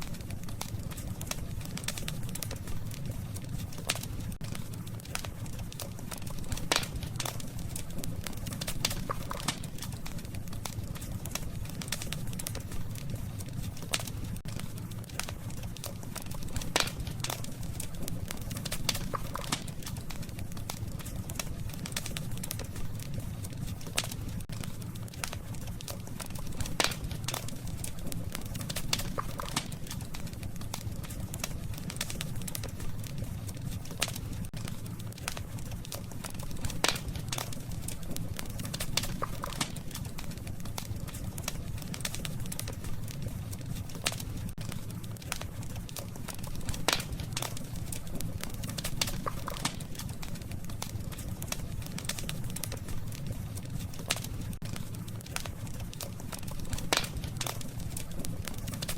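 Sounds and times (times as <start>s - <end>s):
campfire crackling and snapping: 0.0s - 58.9s
low fire rumble: 0.0s - 58.9s.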